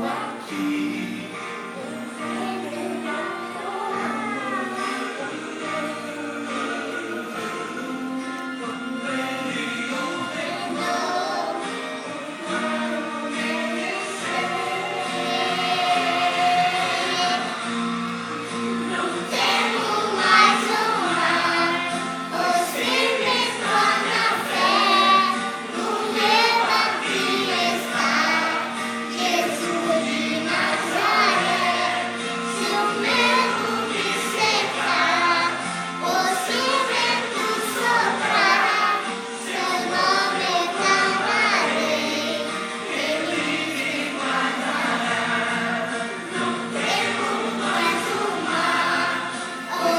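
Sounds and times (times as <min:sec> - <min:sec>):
instrumental backing music: 0:00.0 - 0:49.9
voices singing with vibrato: 0:00.0 - 0:49.9.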